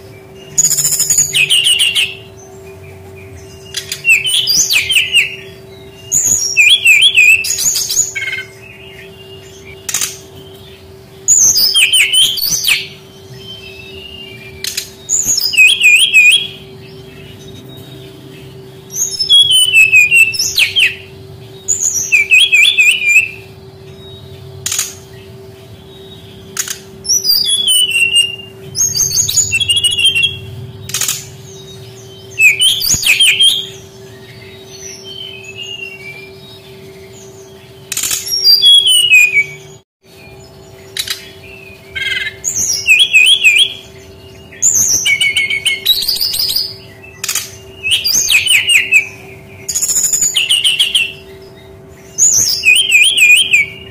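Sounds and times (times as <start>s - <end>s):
bird singing: 0.0s - 53.9s
steady low hum: 0.0s - 53.9s.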